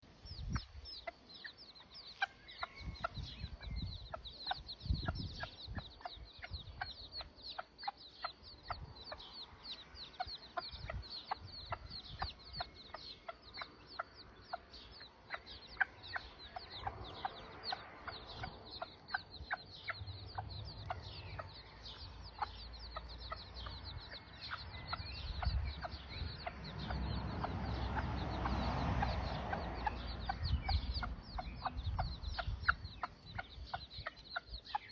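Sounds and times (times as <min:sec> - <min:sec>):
chicks peeping: 0:00.0 - 0:34.9
hen clucking: 0:00.3 - 0:34.9.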